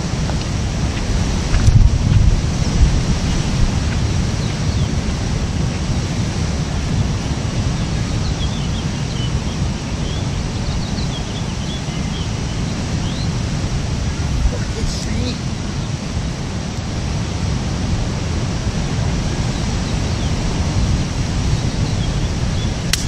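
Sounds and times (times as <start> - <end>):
surf on rocky shore: 0.0 - 23.0
wind buffeting microphone: 0.0 - 23.0.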